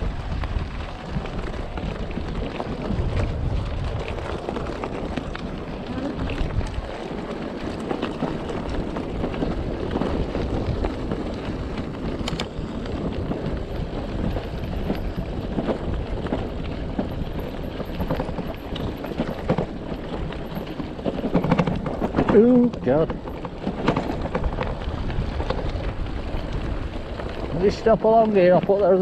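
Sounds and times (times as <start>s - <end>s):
bike knocking and rattling: 0.0s - 29.0s
rolling bike tyres: 0.0s - 29.0s
wind buffeting microphone: 0.0s - 29.0s.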